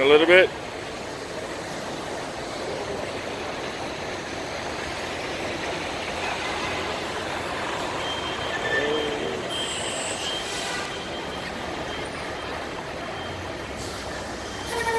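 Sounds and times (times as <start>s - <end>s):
road traffic noise: 0.0s - 14.9s.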